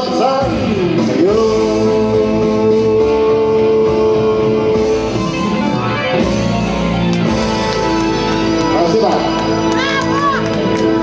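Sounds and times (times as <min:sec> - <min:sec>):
guitar chords: 0:00.0 - 0:11.0.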